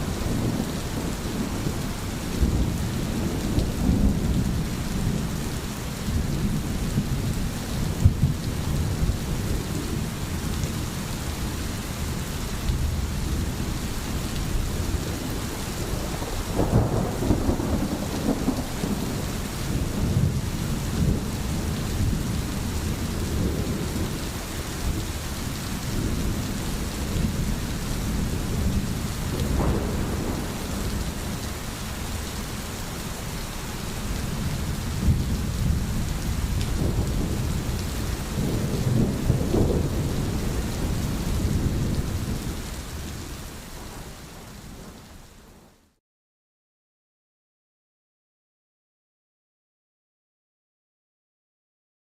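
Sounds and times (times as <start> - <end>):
low rolling thunder: 0.0 - 45.1
steady rain: 0.0 - 46.0.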